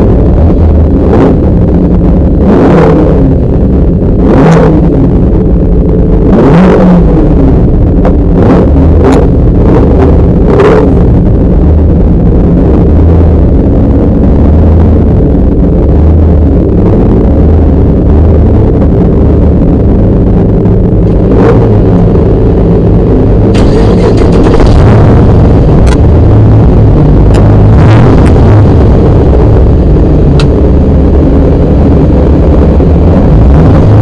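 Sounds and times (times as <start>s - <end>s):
car engine running loud: 0.0s - 34.0s.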